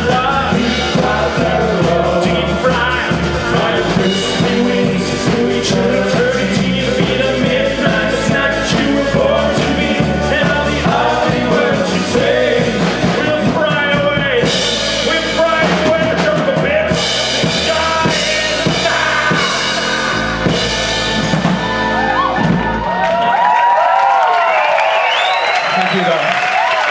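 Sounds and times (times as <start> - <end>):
person singing: 0.0 - 21.8
rock band playing live: 0.0 - 23.6.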